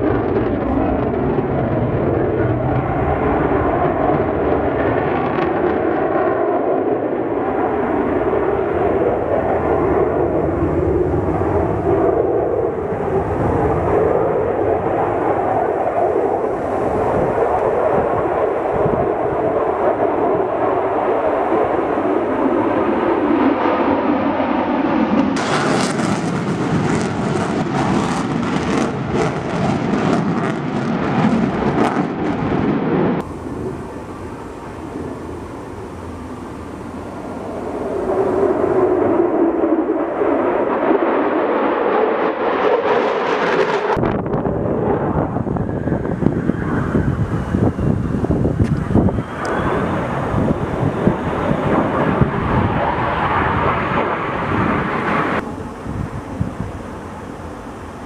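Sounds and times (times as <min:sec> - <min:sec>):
fighter jet engines roaring: 0:00.0 - 0:58.0.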